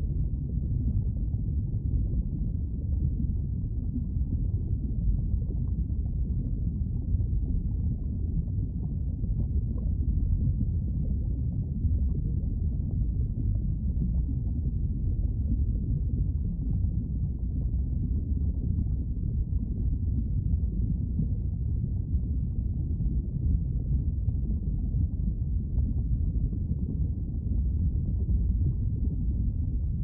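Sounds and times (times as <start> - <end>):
deep rumble of flowing lava: 0.0 - 30.0.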